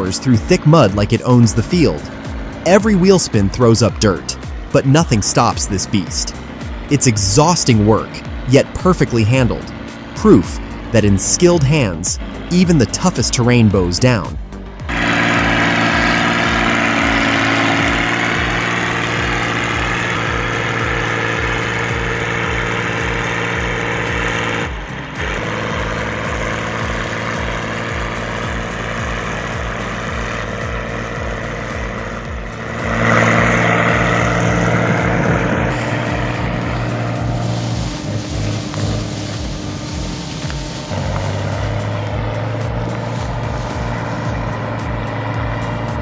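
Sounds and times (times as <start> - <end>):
diesel engine running under load: 0.0 - 46.0.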